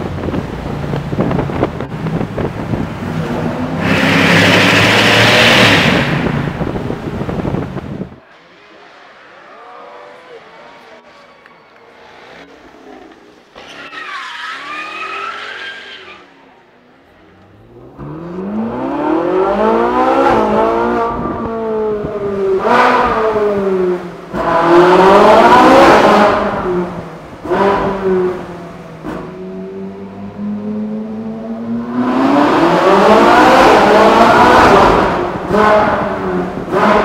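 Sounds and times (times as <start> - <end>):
sports car engine revving: 0.1 - 11.1, 16.9 - 37.0.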